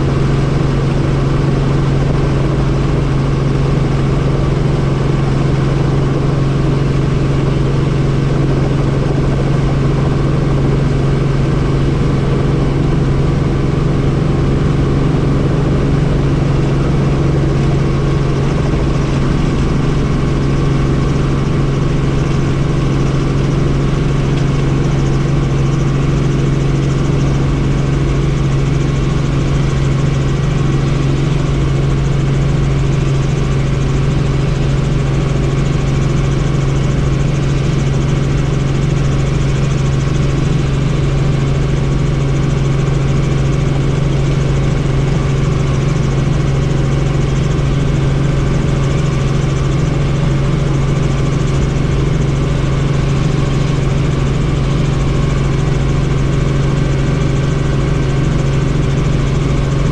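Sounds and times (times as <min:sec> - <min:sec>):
helicopter in flight: 0:00.0 - 0:59.9.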